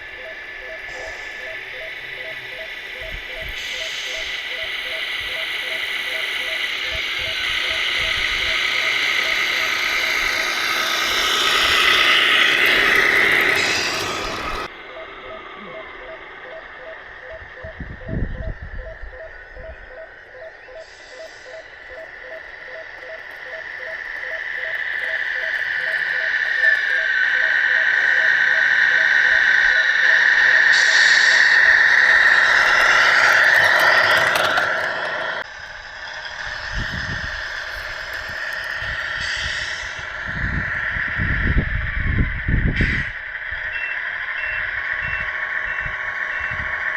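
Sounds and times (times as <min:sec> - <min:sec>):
electric motor whining: 0:00.0 - 0:16.2, 0:21.8 - 0:46.9.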